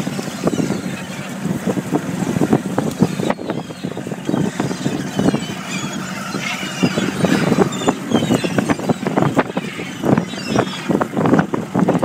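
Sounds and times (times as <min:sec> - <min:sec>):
boat machinery humming: 0:00.0 - 0:12.0.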